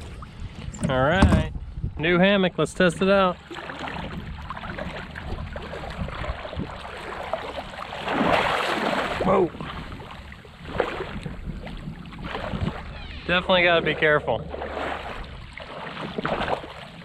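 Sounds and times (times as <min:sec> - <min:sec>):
water around a boat: 0:00.0 - 0:17.0
wind: 0:00.0 - 0:17.0.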